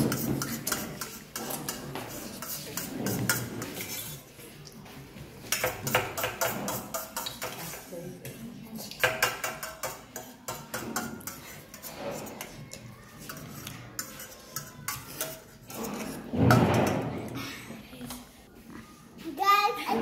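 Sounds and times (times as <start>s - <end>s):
cutlery clinking on steel plates: 0.0s - 4.3s, 5.4s - 17.4s.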